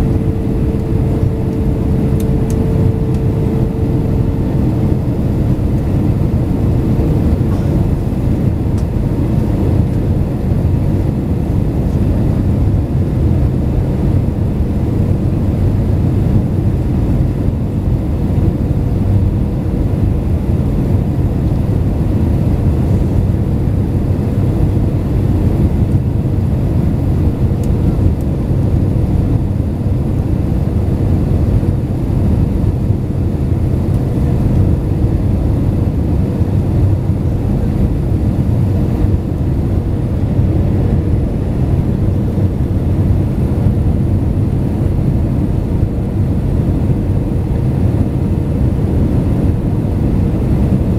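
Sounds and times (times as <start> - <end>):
airliner cabin engine rumble: 0.0 - 50.9
faint hum: 0.0 - 50.9.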